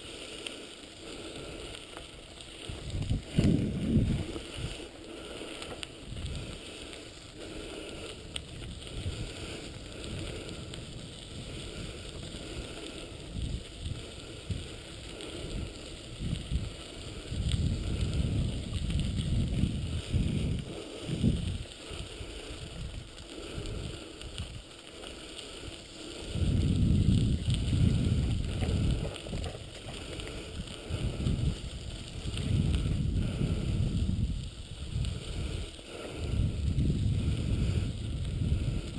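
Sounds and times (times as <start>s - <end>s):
wheels rolling over gravel: 0.0s - 38.9s
low microphone rumble: 2.5s - 24.5s, 25.9s - 38.9s.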